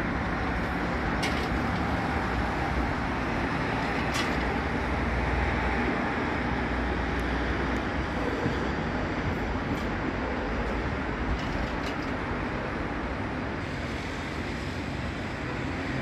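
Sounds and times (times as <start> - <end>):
bus passing: 0.0 - 16.0
road traffic noise: 0.0 - 16.0.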